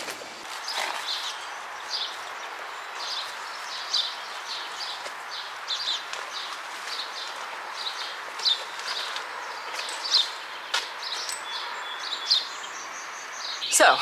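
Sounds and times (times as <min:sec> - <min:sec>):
outdoor background hiss: 0:00.0 - 0:14.0
small birds chirping: 0:00.0 - 0:14.0.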